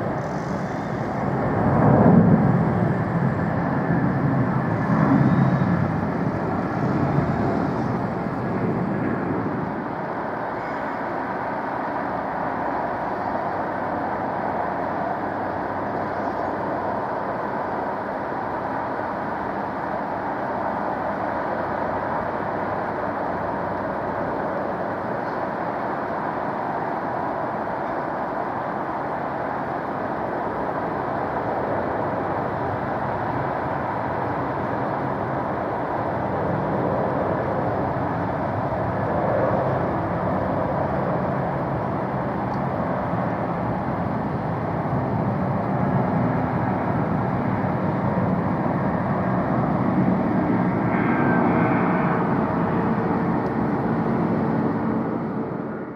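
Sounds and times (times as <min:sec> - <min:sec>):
jet airliner engines running: 0:00.0 - 0:55.9.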